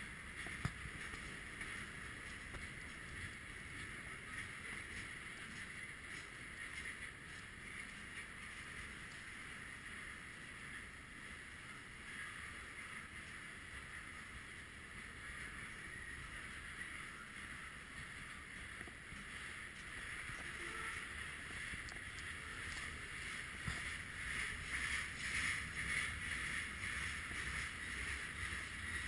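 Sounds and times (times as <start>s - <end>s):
freight train wheels on rails: 0.0s - 29.0s.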